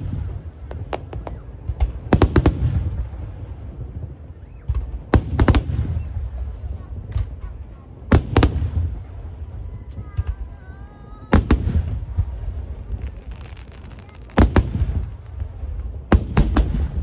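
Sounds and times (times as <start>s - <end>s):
firework bursts booming: 0.0s - 17.0s
firework crackling: 0.0s - 17.0s.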